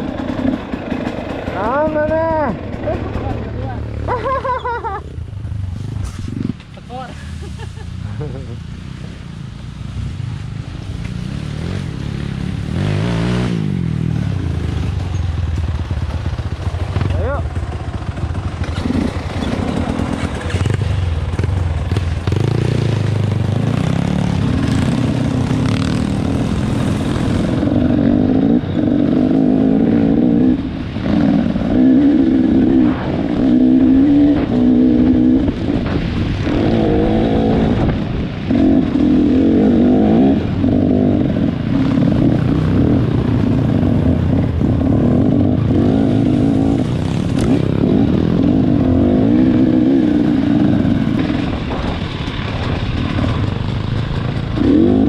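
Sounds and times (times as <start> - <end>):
motorcycle engine revving: 0.0 - 7.1, 7.9 - 55.0.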